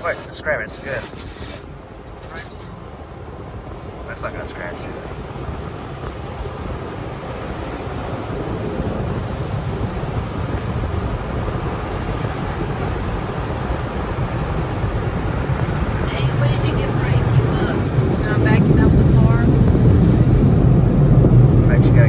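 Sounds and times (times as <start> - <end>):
car wash rushing noise: 0.0 - 22.0.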